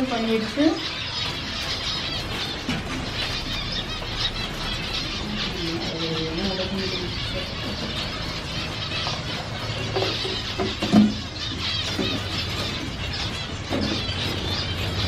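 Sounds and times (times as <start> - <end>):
finches chirping: 0.0 - 15.0.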